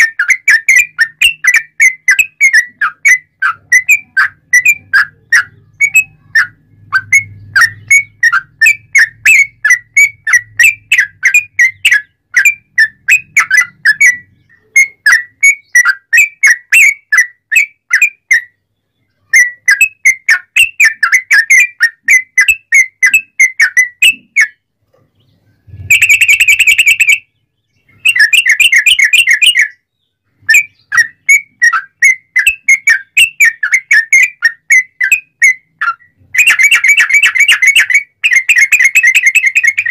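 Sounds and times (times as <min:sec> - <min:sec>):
bird singing whistled notes: 0:00.0 - 0:39.9
rapid bird trill: 0:00.0 - 0:39.9.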